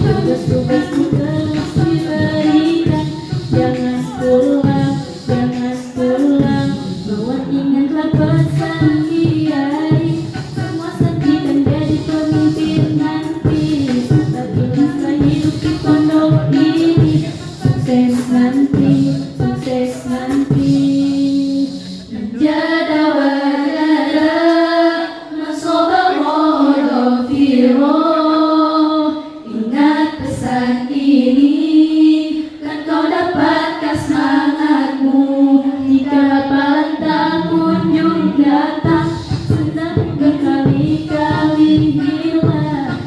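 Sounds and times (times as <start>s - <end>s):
girls singing a cappella: 0.0s - 43.0s.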